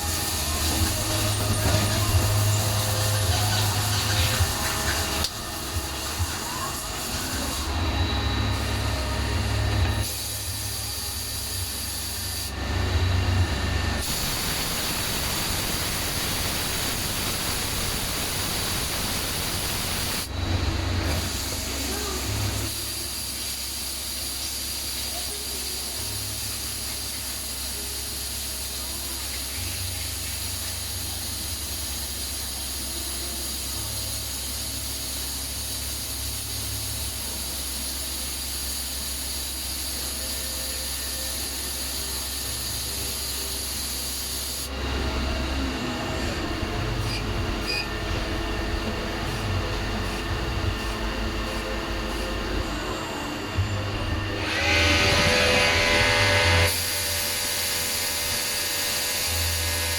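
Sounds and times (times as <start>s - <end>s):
cnc machine hissing: 0.0s - 59.9s.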